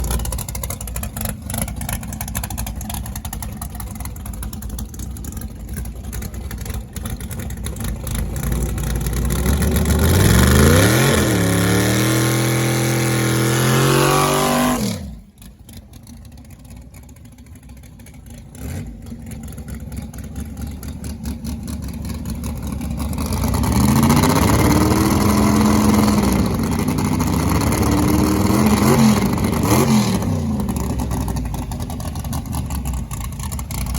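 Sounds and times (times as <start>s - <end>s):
pickup truck engine rumbling: 0.0s - 33.9s.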